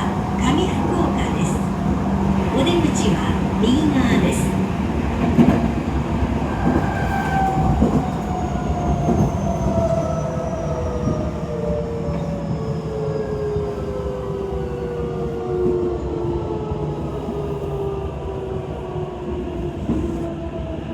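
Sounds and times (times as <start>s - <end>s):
rumble of train wheels: 0.0s - 20.9s.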